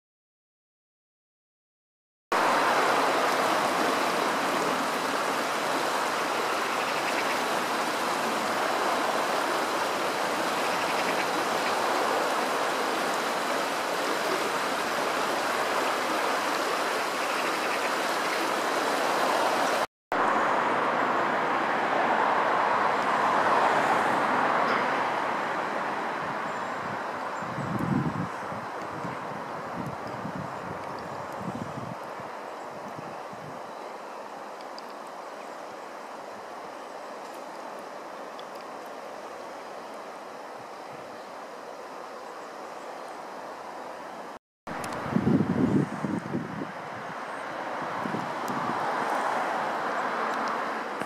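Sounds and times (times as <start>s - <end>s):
river running over stones: 2.4s - 45.4s, 46.3s - 51.0s.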